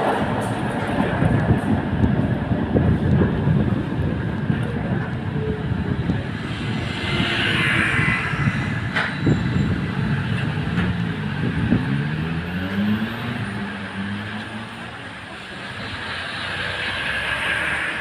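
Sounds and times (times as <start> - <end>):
tram wheels rumbling on rail: 0.0 - 18.0.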